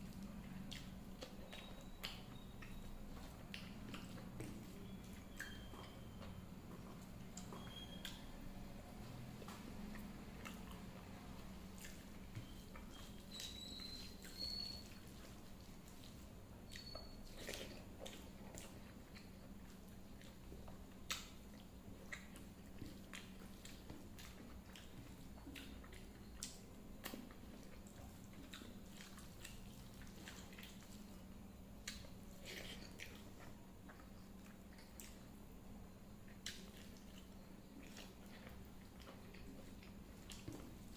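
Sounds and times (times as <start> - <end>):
steady low hum: 0.0 - 40.9
person chewing: 0.1 - 8.3, 9.4 - 31.2, 31.8 - 35.3, 36.2 - 40.9.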